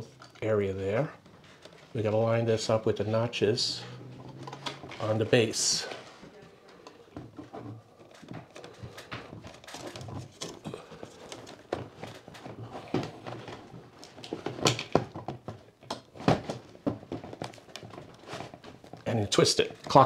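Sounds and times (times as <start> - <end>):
fan body rubbing and clicking: 1.2 - 20.0.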